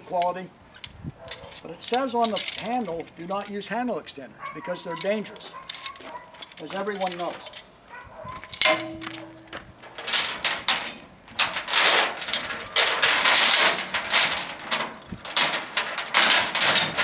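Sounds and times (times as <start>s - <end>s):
chain links rattling: 0.2s - 3.7s, 4.4s - 17.0s.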